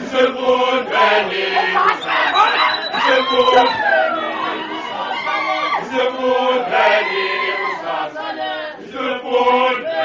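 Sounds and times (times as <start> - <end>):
male choir singing in harmony: 0.0 - 10.0.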